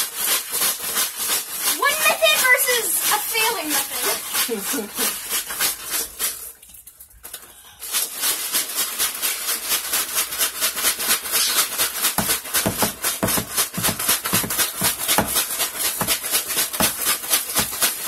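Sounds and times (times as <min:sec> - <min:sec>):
ice rattling in shaken bag: 0:00.0 - 0:18.0.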